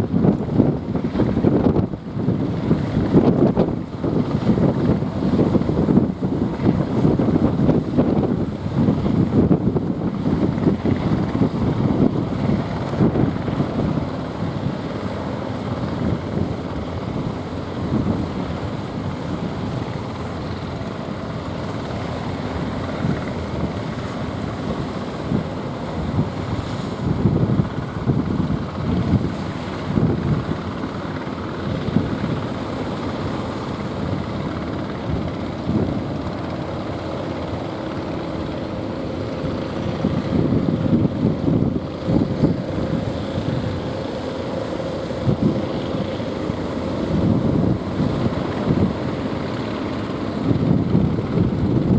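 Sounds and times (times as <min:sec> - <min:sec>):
sea: 0:00.0 - 0:51.9
wind buffeting microphone: 0:00.0 - 0:51.9.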